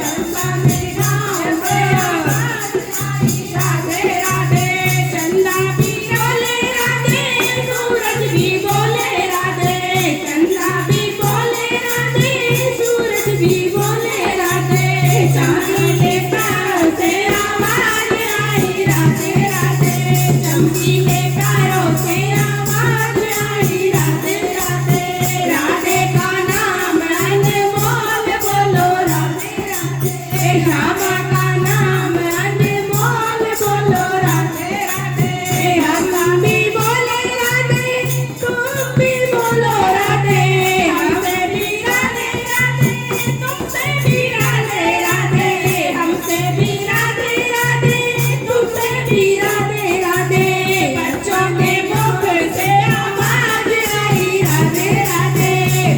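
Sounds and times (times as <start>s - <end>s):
jingling percussion beat: 0.0s - 55.9s
person singing devotional song: 0.0s - 55.9s.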